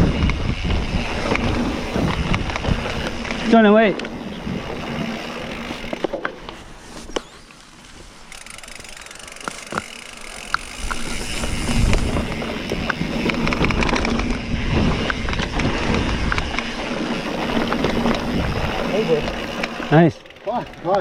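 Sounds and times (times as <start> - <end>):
wind noise: 0.0 - 7.3, 9.7 - 19.6
tyre noise: 0.0 - 20.1
bike clicks and rattles: 0.0 - 21.0.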